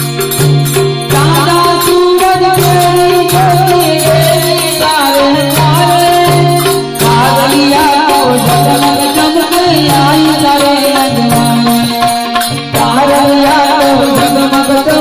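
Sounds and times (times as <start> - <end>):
harmonium chords: 0.0 - 15.0
jingling tambourine percussion: 0.0 - 15.0
person singing devotional melody: 0.0 - 15.0.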